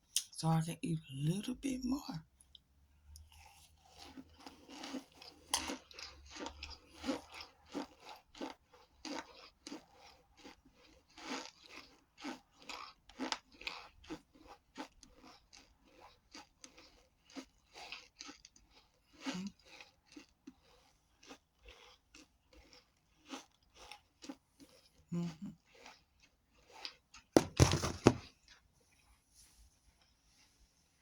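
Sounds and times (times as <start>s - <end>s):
crunching and chewing: 2.4s - 29.2s.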